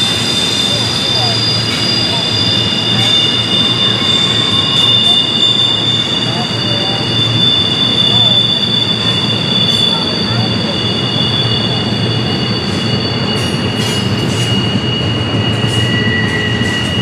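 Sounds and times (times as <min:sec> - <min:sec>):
low rumble of train cars: 0:00.0 - 0:17.0
train wheels squealing: 0:00.0 - 0:17.0.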